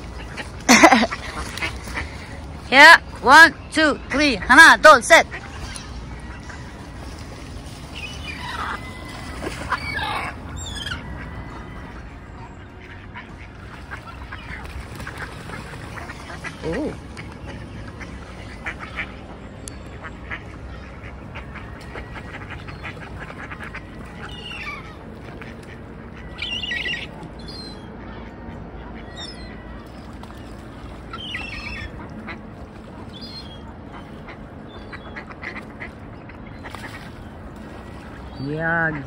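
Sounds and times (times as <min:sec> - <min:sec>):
ducks quacking: 0:00.0 - 0:39.0.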